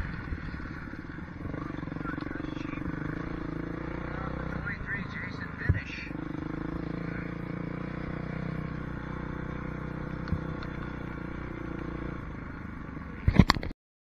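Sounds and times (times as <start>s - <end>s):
motorbike engine running slowly: 0.0s - 13.6s.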